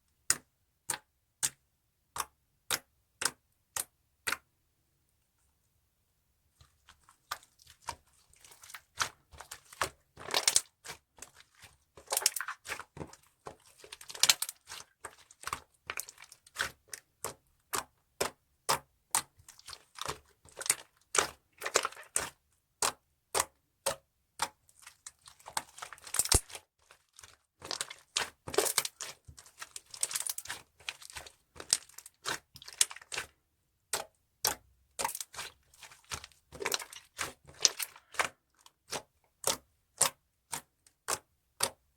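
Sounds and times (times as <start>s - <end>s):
slime squished by hand: 6.7s - 41.8s.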